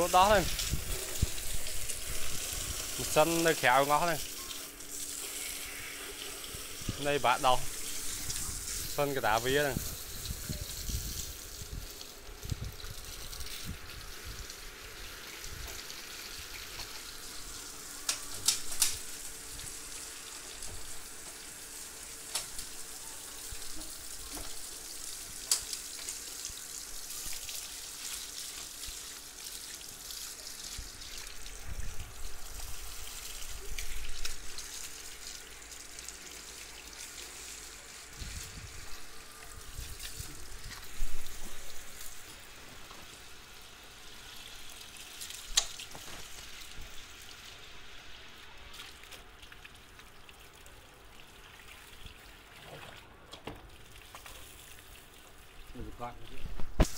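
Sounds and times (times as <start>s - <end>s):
hose water spraying and splashing: 0.0s - 56.9s.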